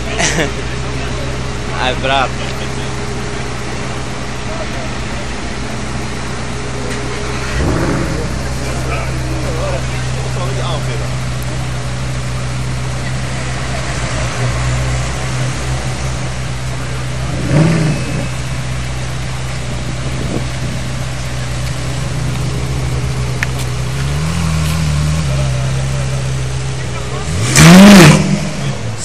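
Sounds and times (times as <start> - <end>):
car engine idling: 0.0 - 29.0
engine revving: 5.7 - 29.0.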